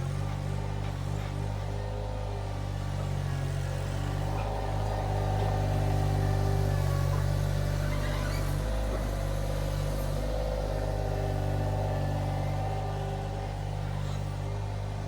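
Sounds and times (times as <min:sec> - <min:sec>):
skid steer engine running: 0:00.0 - 0:15.0.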